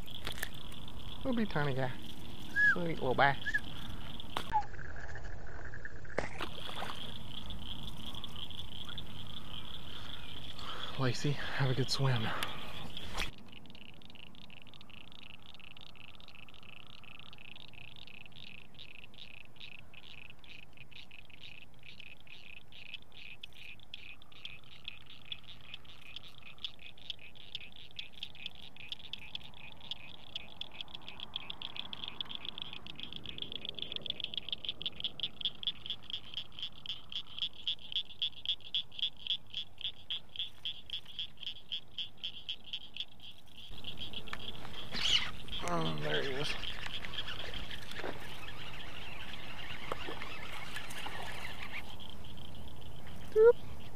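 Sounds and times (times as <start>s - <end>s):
frog calling in sharp clicks: 0.0s - 53.9s.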